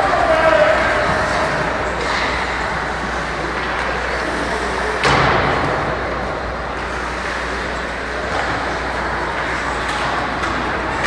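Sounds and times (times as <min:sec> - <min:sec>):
ice rink noise: 0:00.0 - 0:11.0.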